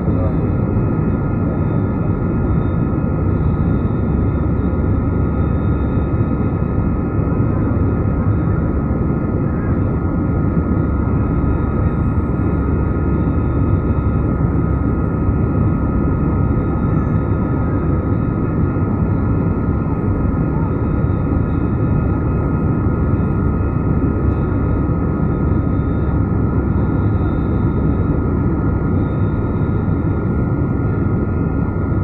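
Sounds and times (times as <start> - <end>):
faint steady engine whine: 0.0 - 32.0
jet engine rumble in cabin: 0.0 - 32.0.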